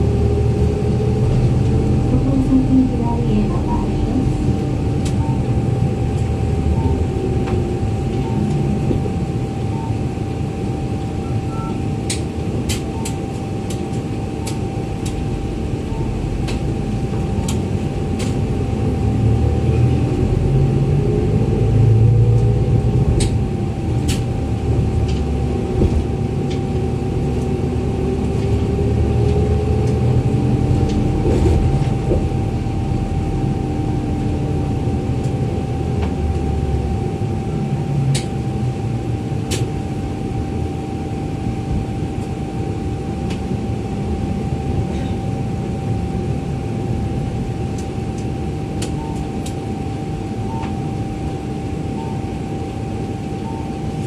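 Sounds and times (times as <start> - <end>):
bus engine rumble and whine: 0.0 - 54.0
steady high hum: 0.0 - 54.0.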